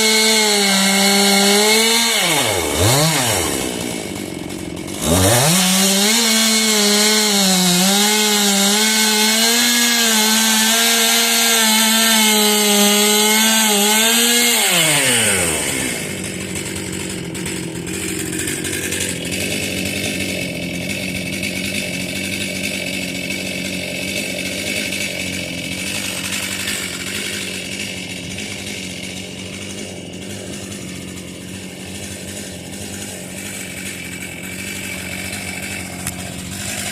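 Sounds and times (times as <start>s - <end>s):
chainsaw engine revving: 0.0s - 36.9s
chainsaw idling: 0.0s - 36.9s.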